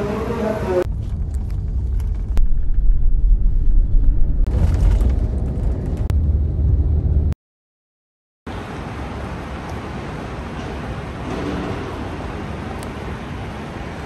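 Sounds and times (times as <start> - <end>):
bus road and engine rumble: 0.0 - 7.4, 8.5 - 14.0.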